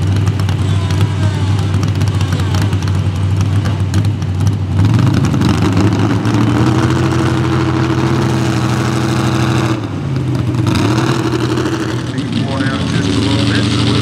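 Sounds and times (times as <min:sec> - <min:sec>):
tractor engine at full throttle: 0:00.0 - 0:14.0.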